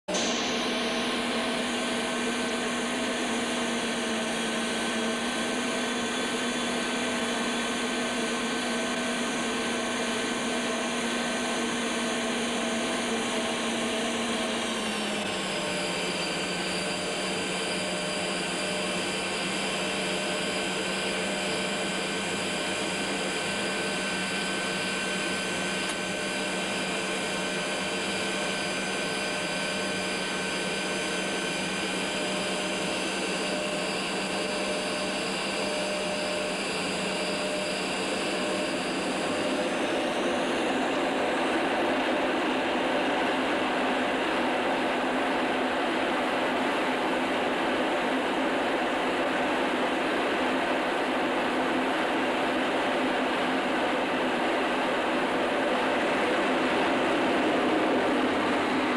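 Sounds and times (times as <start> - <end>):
jet engines whining: 0.1 - 58.9.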